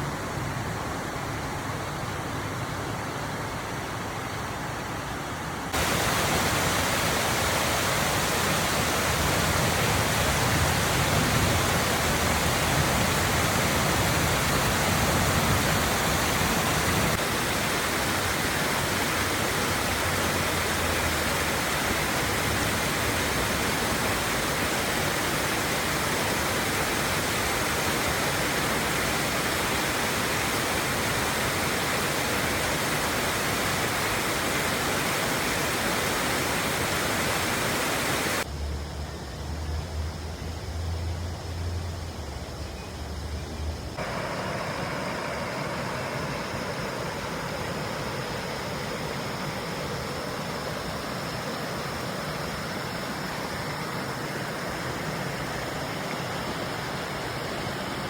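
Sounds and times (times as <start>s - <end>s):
waterfall rushing: 0.0s - 38.5s, 43.9s - 58.0s.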